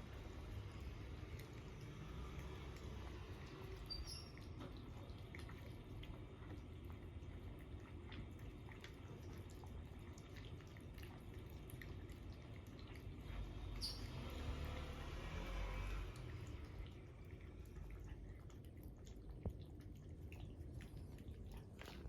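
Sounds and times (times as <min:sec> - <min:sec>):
cats chewing and lapping: 0:00.0 - 0:22.0
low room hum: 0:00.0 - 0:22.0.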